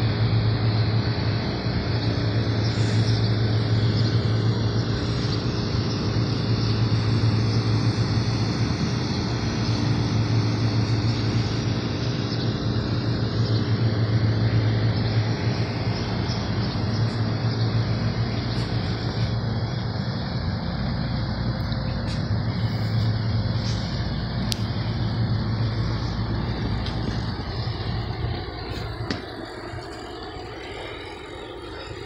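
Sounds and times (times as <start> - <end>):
air conditioning units humming: 0.0 - 32.0.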